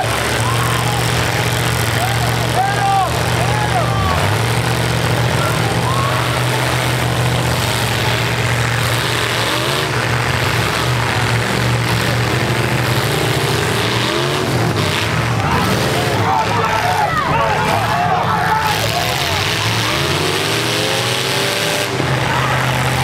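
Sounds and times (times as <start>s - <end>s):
truck engines droning and revving: 0.0s - 23.0s.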